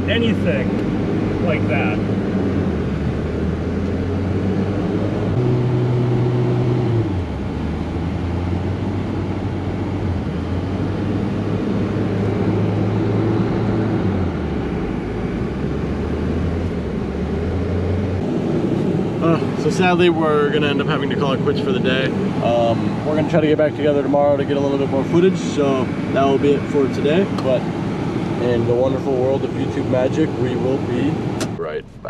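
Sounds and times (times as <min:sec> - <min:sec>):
road and tyre noise: 0:00.0 - 0:32.0.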